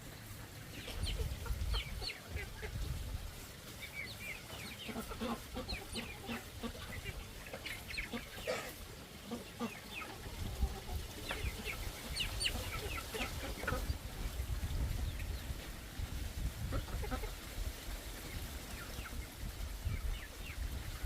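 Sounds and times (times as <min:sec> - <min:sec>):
chickens clucking and cheeping: 0:00.0 - 0:21.0.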